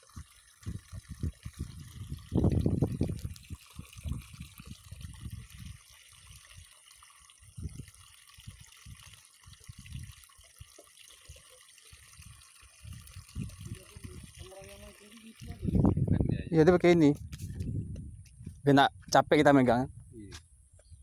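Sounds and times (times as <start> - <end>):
water trickling: 0.0 - 18.0.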